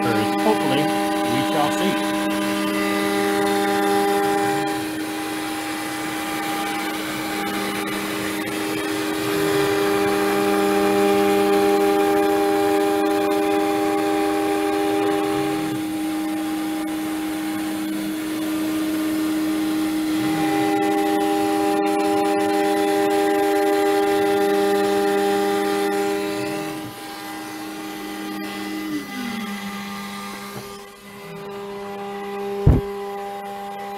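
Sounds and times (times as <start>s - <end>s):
cnc router spindle whining: 0.0s - 33.9s
dust-collection vacuum running: 0.0s - 33.9s.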